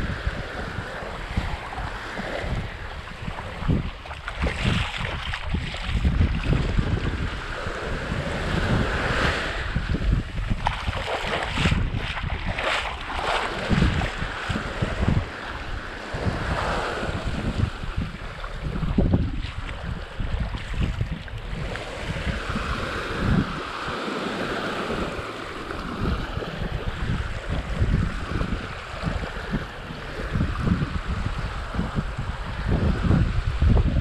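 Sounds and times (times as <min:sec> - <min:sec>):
small waves washing on sand: 0:00.0 - 0:34.0
wind buffeting microphone: 0:00.0 - 0:34.0.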